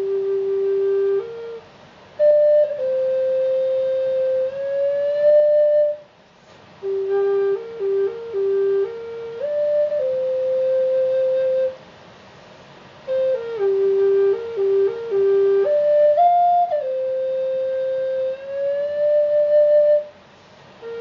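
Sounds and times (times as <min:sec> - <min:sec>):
solo flute melody: 0:00.0 - 0:11.9, 0:13.0 - 0:21.0.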